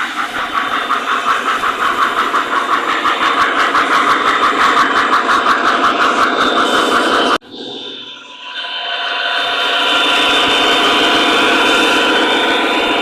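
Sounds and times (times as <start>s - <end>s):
model train engine sound: 0.0s - 13.0s.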